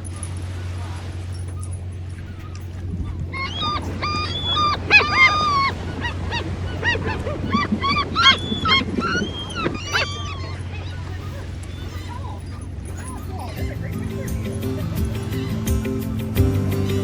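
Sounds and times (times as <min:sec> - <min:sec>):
gulls calling: 0:00.0 - 0:17.0
low steady hum: 0:00.0 - 0:17.0.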